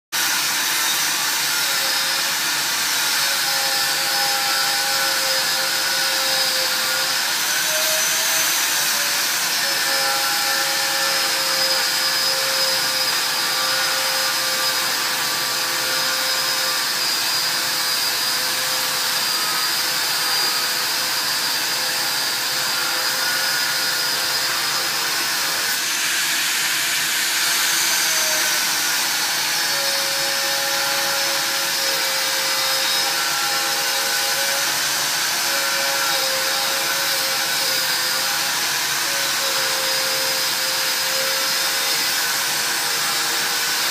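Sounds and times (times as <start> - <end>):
angle grinder grinding steel: 0.2 - 43.9.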